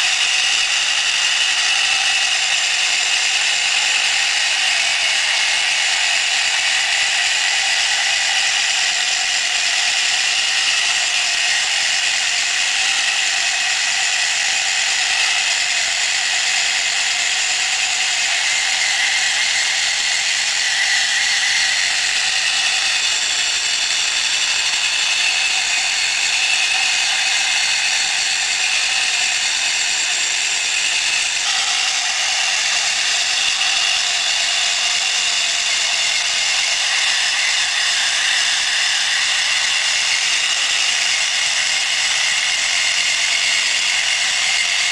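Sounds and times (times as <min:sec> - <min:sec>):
crawler tracks rattling whir: 0:00.0 - 0:44.9.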